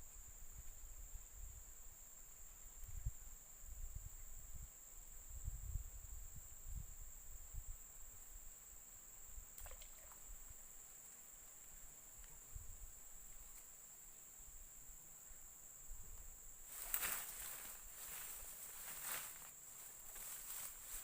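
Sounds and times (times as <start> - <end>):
rustle: 0.0 - 21.0.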